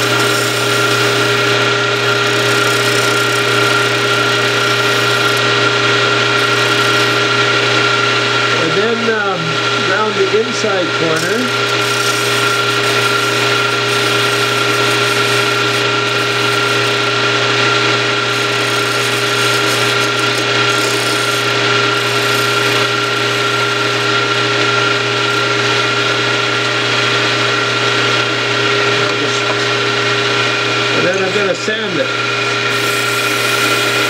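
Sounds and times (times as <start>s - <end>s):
lathe tool cutting wood: 0.0s - 34.0s
wood lathe humming: 0.0s - 34.0s.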